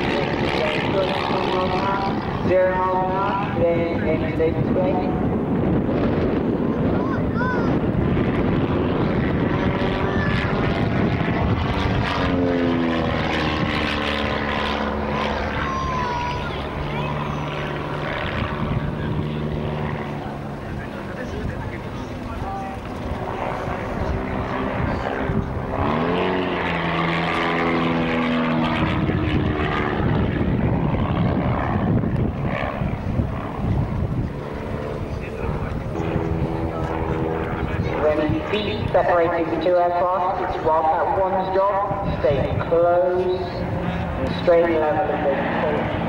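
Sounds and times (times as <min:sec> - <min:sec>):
propeller plane engine overhead: 0:00.0 - 0:46.0.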